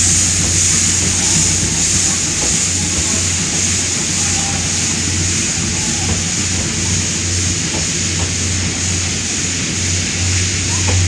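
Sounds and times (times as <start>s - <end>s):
high hiss: 0.0s - 11.0s
train coaches rolling: 0.0s - 11.0s.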